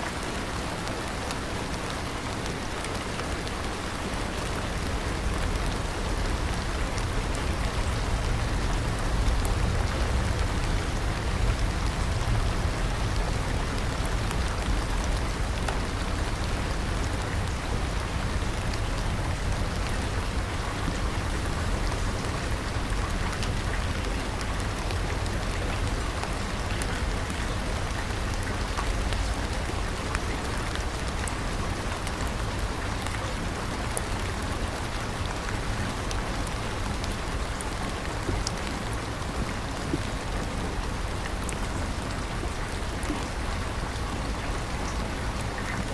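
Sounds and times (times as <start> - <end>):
heavy rain falling: 0.0 - 45.9
raindrop ticks: 4.3 - 45.9.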